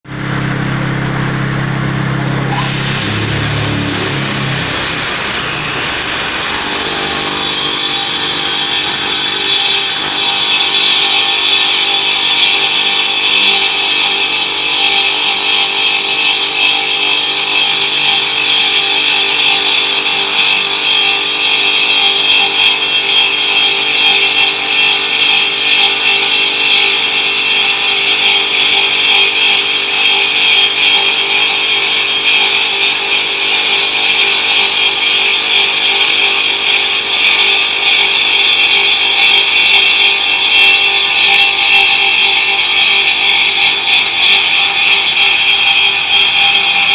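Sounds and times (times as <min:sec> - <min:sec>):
cutting machine whine: 0:00.0 - 0:46.9.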